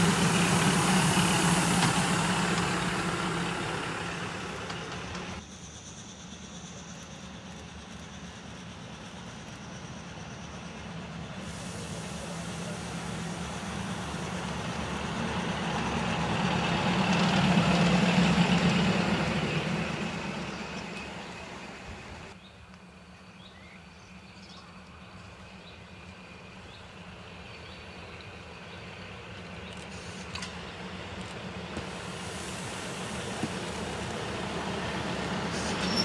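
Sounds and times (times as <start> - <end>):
train passing: 0.0 - 5.5, 6.6 - 22.4, 25.0 - 36.0.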